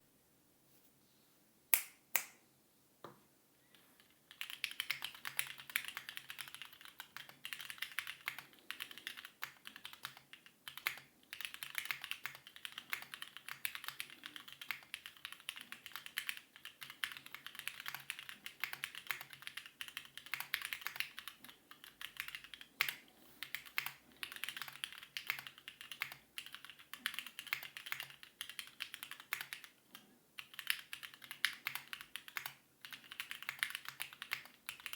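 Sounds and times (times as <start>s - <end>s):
typing on mechanical keyboard: 4.3s - 29.8s, 30.4s - 34.9s.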